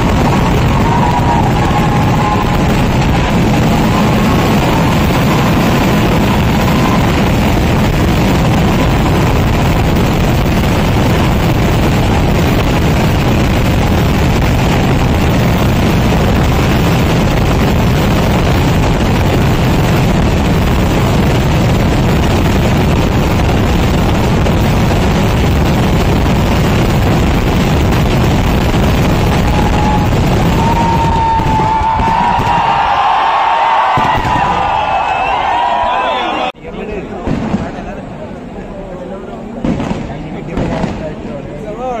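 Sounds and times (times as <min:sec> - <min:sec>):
fireworks explosions rumbling: 0:00.0 - 0:41.8.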